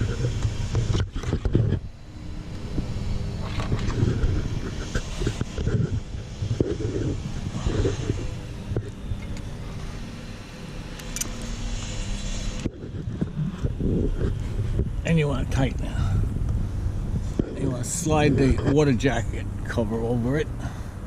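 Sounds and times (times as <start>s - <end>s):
wind on microphone: 0.0s - 10.2s, 11.8s - 19.8s.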